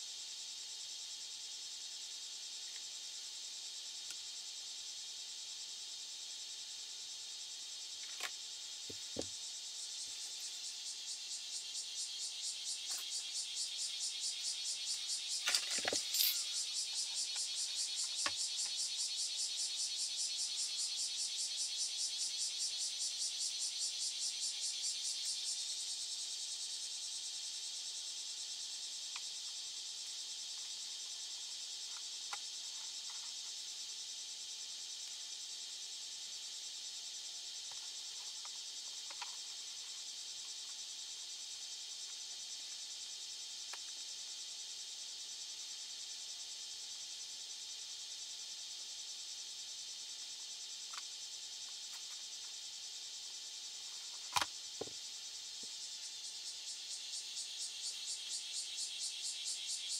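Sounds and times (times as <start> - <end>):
insect chirring: 0.0 - 59.9.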